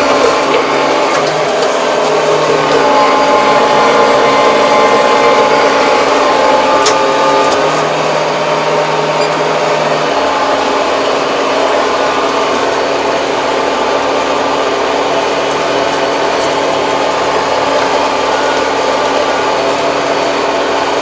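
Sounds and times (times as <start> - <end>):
tractor engine drone: 0.0 - 21.0.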